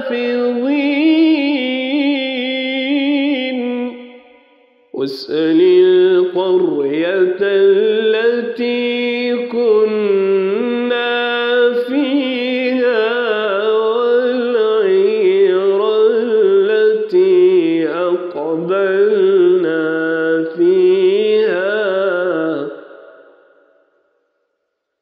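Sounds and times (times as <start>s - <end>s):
man chanting recitation: 0.0s - 4.1s, 5.0s - 22.8s.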